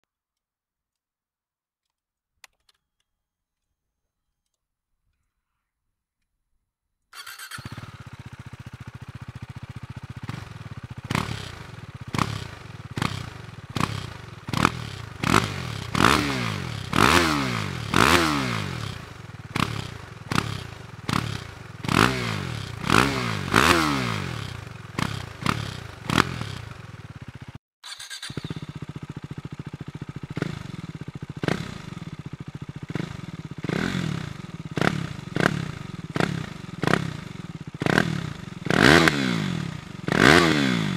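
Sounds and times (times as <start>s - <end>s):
motorcycle engine idling and revving: 7.2s - 40.9s.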